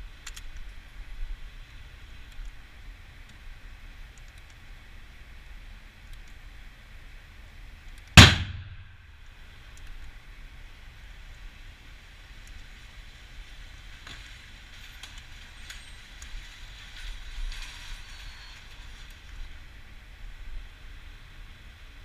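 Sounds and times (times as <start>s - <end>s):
low rumble and hiss: 0.0s - 22.0s.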